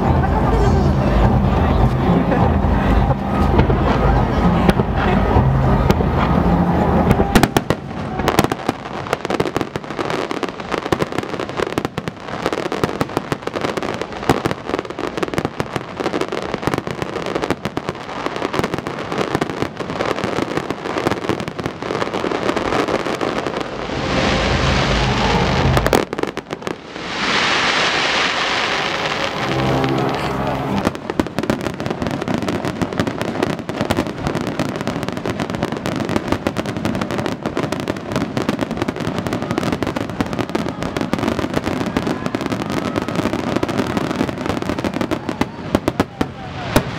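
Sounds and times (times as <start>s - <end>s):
fireworks bursting: 0.0s - 46.9s
fireworks crackling: 0.0s - 46.9s
hissing crackle: 1.9s - 46.9s.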